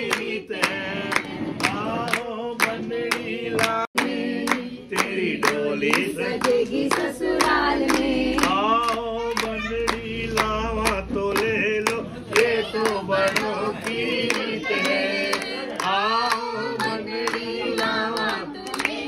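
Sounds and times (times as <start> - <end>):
group singing folk song: 0.0 - 19.0
hand clapping: 0.0 - 19.0.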